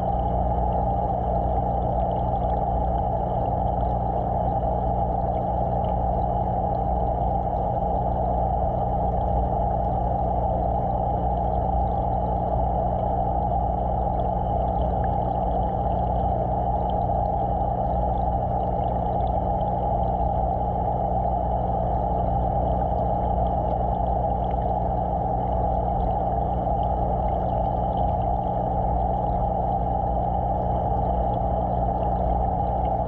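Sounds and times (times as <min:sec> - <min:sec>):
aquarium equipment hum underwater: 0:00.0 - 0:33.0.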